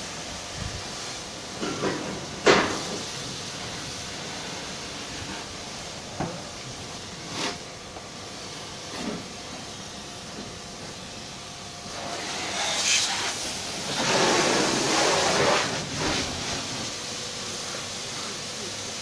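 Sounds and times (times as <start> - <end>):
faint machine hum: 0.0 - 19.0
water spraying from hose gun: 0.0 - 19.0.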